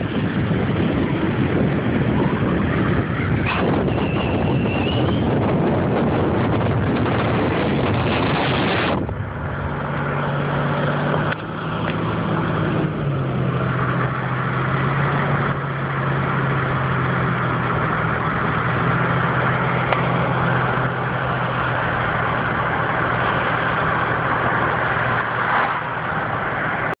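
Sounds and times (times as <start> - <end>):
car engine hum: 0.0 - 27.0
loud rushing noise: 0.0 - 27.0
tyre noise on wet road: 0.0 - 27.0.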